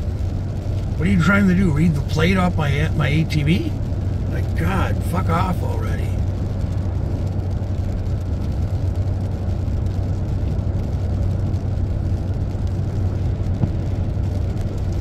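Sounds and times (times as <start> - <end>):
tyre noise on wet road: 0.0 - 15.0
vehicle cabin engine drone: 0.0 - 15.0.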